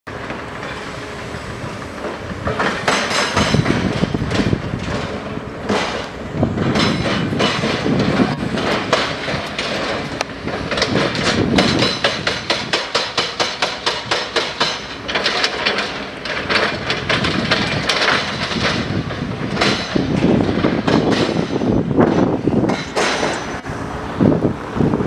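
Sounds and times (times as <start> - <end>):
steady mechanical noise: 0.1 - 25.0
rapid metallic clanks: 2.0 - 23.6.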